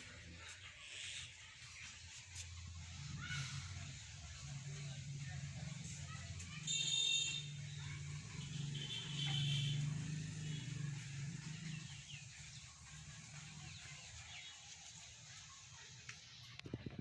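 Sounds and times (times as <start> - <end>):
birds chirping faintly: 0.0 - 16.7
motor vehicle passing: 0.3 - 15.9.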